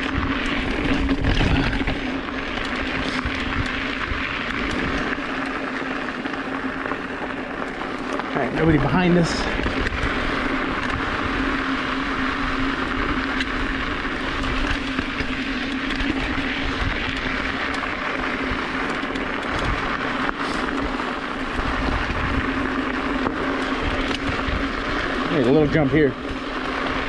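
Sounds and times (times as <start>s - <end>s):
bike rattles and knocks: 0.0s - 27.0s
tyre noise on dirt: 0.0s - 27.0s.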